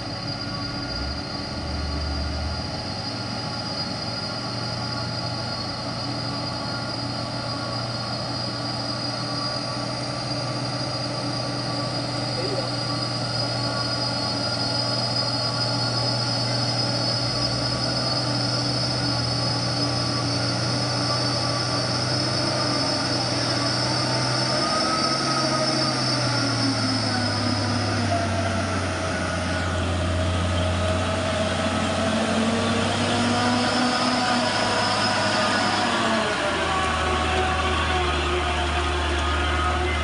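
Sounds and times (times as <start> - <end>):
high whine: 0.0 - 40.0
truck diesel engine labouring: 0.0 - 40.0.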